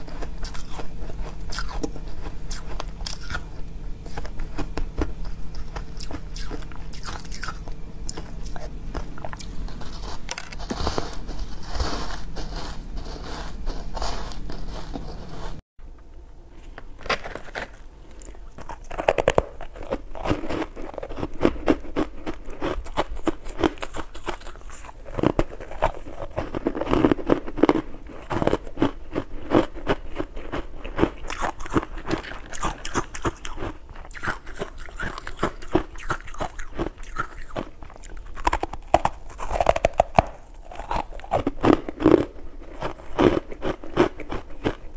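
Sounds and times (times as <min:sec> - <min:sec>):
crunching and chewing ice: 0:00.0 - 0:15.4, 0:16.6 - 0:44.9.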